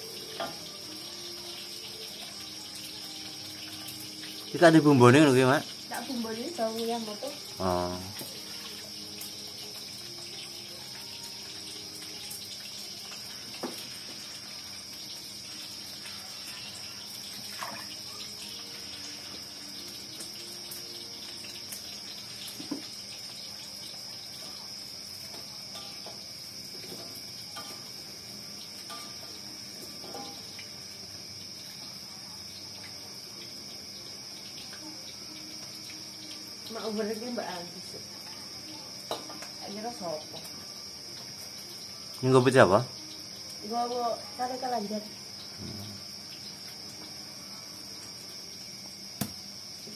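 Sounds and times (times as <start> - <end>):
food frying in hot oil: 0.0 - 49.9
insects chirring: 0.0 - 49.9.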